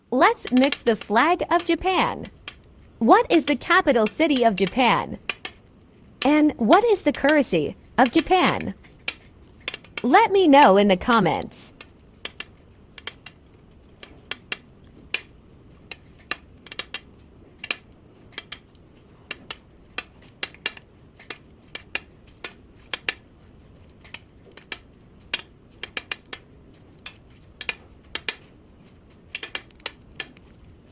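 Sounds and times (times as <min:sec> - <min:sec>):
tool clicking and tapping: 0:00.2 - 0:30.9.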